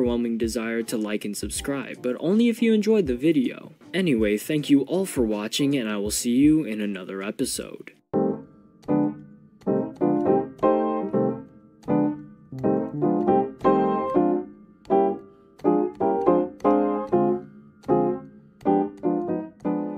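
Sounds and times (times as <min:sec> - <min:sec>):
piano-style keyboard music: 0:00.0 - 0:06.7, 0:08.1 - 0:19.9.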